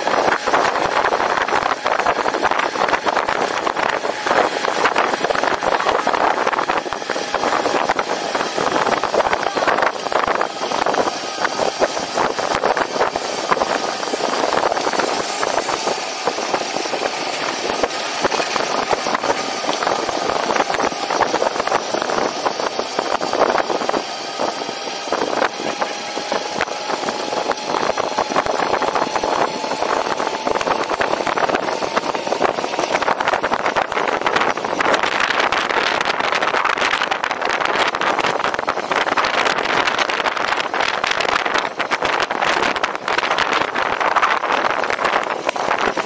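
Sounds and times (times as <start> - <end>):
vehicle rolling and rattling: 0.0 - 46.0
wind buffeting microphone: 0.0 - 46.0.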